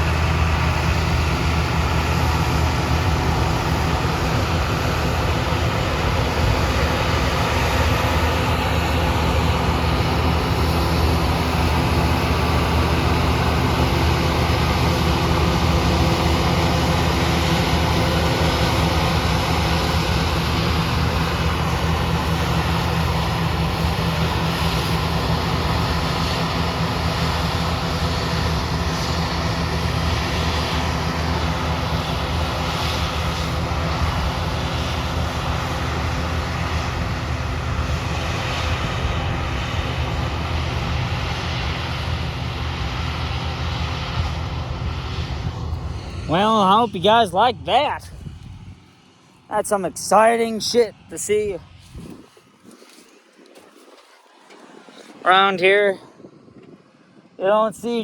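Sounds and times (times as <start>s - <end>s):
heavy machinery engine humming: 0.0s - 55.9s.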